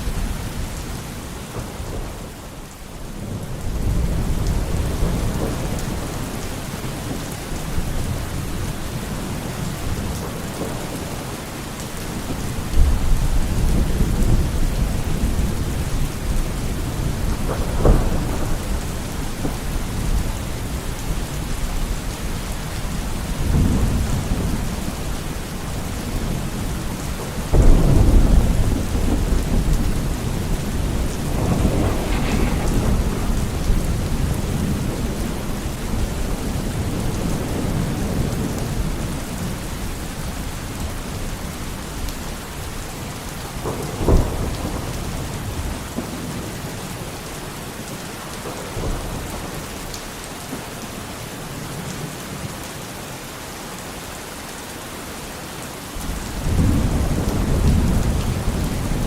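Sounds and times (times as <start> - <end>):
thunder rumbling and cracking: 0.0 - 50.7, 56.0 - 59.0
steady rain: 0.0 - 59.0.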